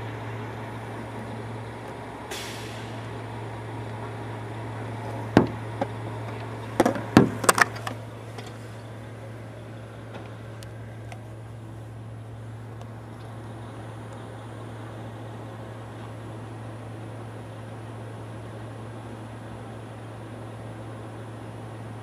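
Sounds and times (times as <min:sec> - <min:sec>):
garbage truck idling: 0:00.0 - 0:22.0.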